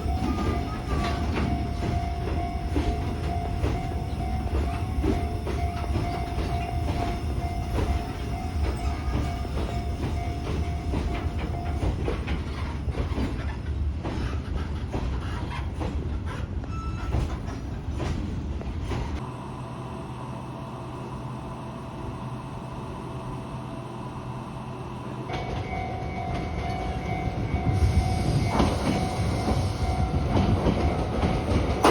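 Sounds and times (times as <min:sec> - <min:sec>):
wheels clattering over rail joints: 0:00.0 - 0:19.2, 0:25.3 - 0:31.9
train rumbling past: 0:00.0 - 0:31.9.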